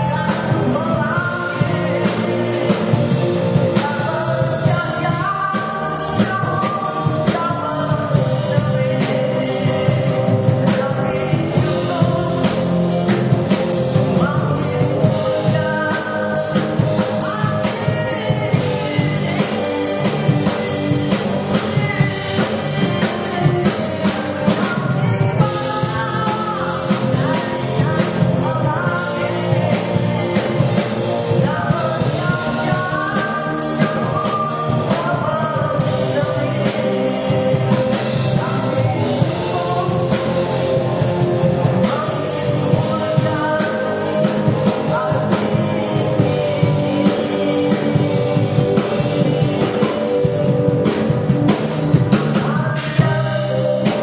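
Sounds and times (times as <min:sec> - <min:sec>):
live rock band playing: 0:00.0 - 0:54.0
person singing: 0:00.0 - 0:54.0.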